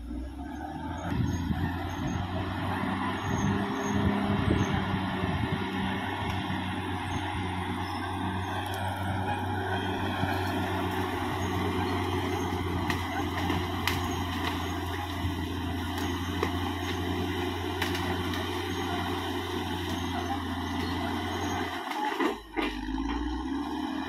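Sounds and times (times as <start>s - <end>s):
bulldozer diesel engine droning: 0.0s - 24.0s.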